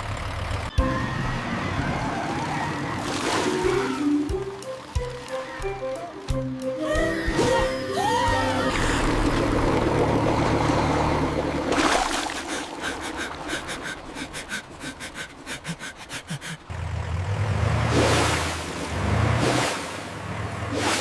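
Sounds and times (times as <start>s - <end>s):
vehicle engine rumbling: 0.0s - 20.8s.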